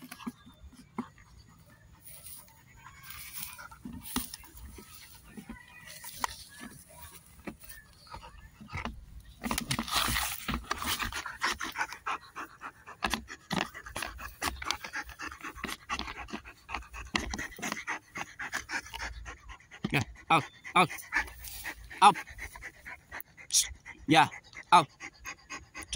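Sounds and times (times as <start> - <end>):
dog panting fast: 1.1 - 25.9.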